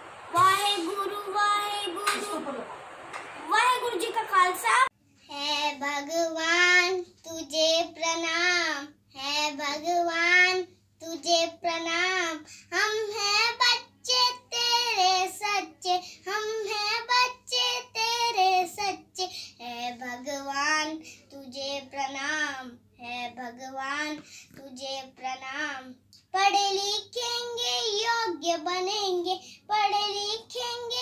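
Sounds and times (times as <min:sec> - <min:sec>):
child singing: 0:00.3 - 0:02.6, 0:03.5 - 0:31.0.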